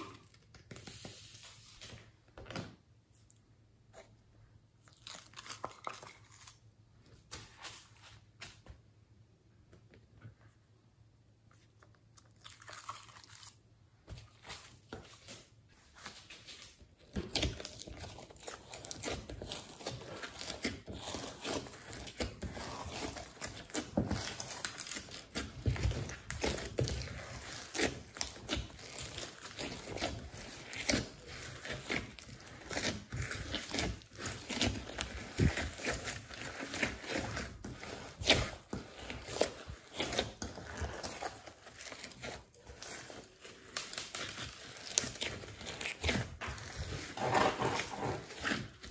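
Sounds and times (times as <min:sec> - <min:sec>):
hands squishing crunchy slime: 0:04.8 - 0:08.6, 0:11.6 - 0:48.9.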